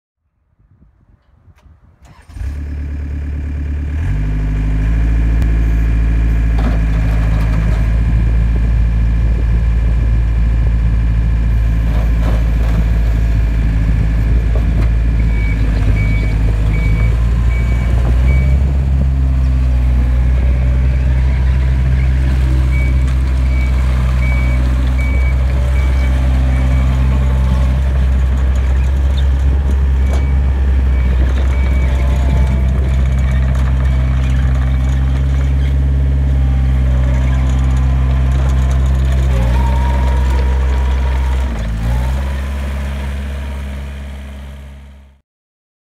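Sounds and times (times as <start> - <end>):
skid steer diesel engine running: 2.0 - 45.2.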